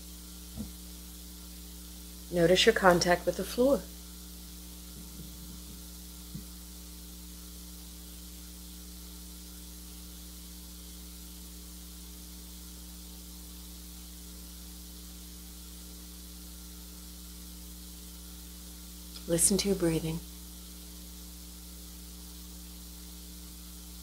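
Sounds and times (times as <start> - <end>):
constant hiss: 0.0 - 24.0
electrical hum: 0.0 - 24.0.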